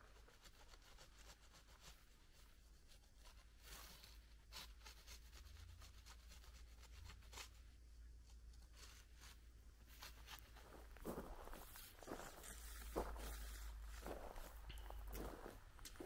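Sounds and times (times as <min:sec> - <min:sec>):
faint scratching and rustling: 0:00.0 - 0:16.0.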